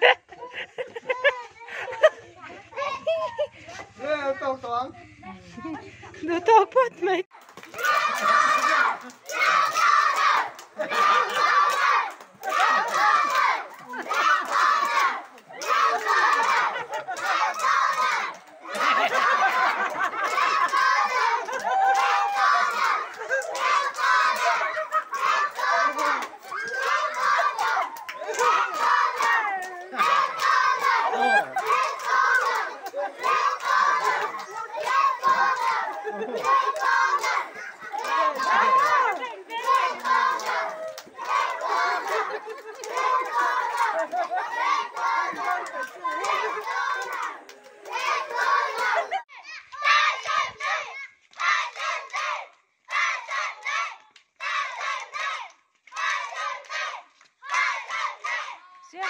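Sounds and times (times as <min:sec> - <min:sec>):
children shouting: 0:07.6 - 0:59.0.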